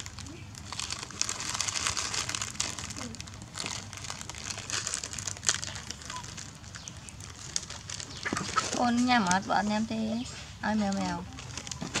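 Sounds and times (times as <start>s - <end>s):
plastic snack packet crinkling: 0.0s - 9.4s, 10.8s - 12.0s.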